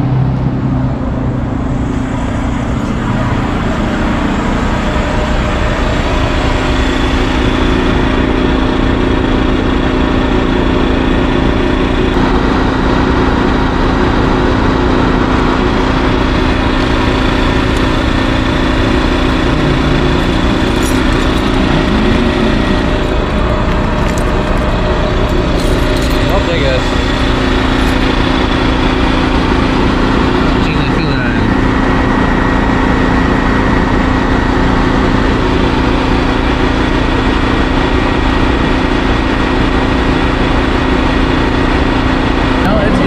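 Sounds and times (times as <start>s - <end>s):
generator running: 0.0s - 43.0s.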